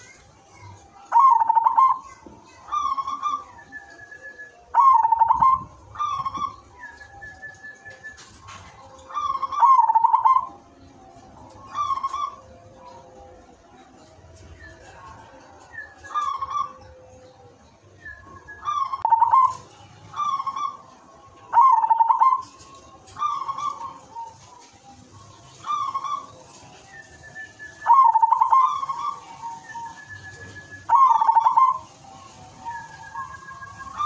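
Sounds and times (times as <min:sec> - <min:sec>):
dove cooing: 0:01.0 - 0:13.3, 0:14.6 - 0:17.1, 0:18.0 - 0:34.0.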